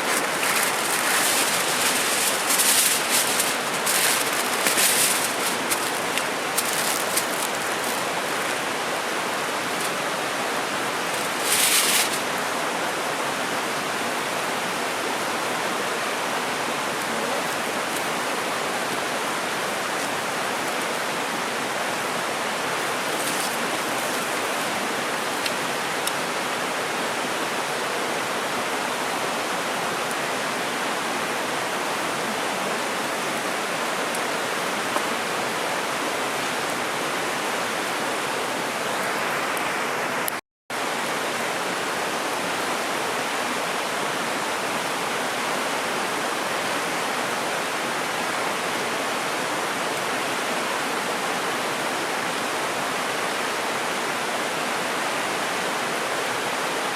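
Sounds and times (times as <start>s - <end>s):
mountain stream rushing: 0.0s - 56.9s.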